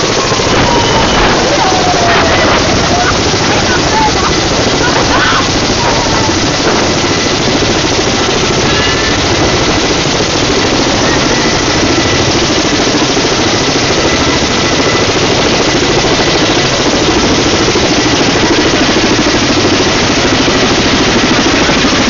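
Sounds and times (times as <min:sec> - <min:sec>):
helicopter rotor and turbine: 0:00.0 - 0:22.0.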